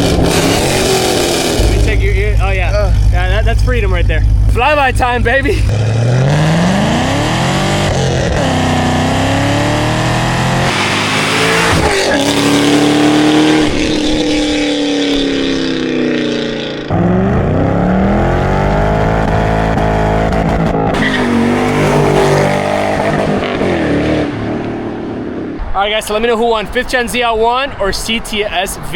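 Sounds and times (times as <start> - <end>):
car engine accelerating hard: 0.0 - 25.6.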